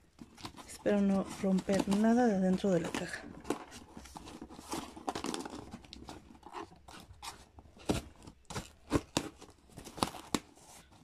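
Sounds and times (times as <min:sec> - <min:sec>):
packing tape and cardboard tearing: 0:00.0 - 0:11.0.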